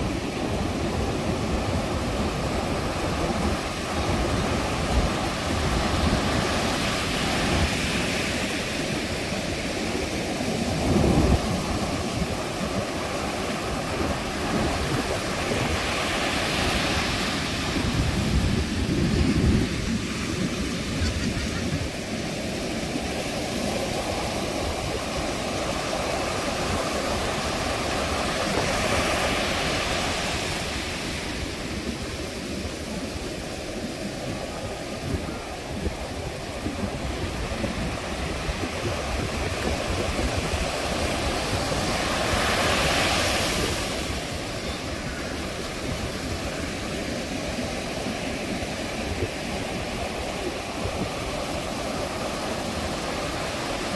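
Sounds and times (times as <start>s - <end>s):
ocean waves crashing on beach: 0.0s - 53.9s.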